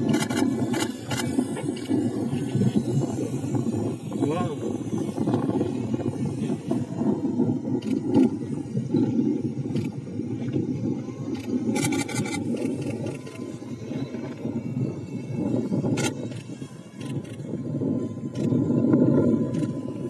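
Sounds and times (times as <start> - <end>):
motorboat engine running: 0.0 - 20.0
water noise: 0.0 - 20.0
wind: 0.0 - 20.0.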